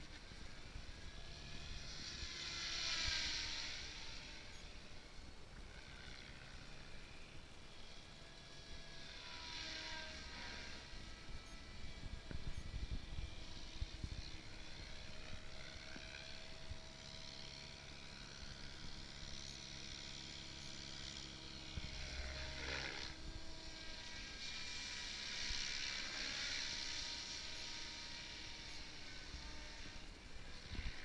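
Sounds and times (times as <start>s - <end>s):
rc helicopter motor and rotor whine: 0.0s - 31.0s.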